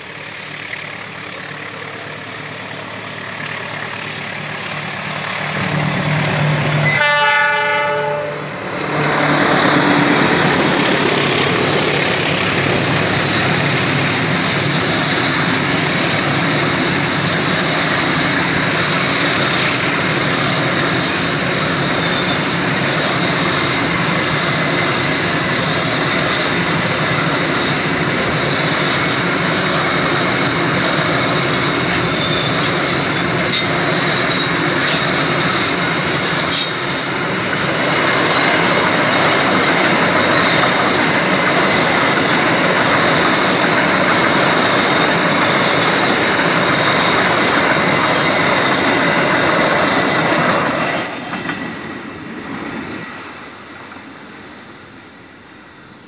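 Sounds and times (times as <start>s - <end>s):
wheels clacking over rail joints: 0.1s - 51.8s
high wheel squeal: 0.2s - 51.1s.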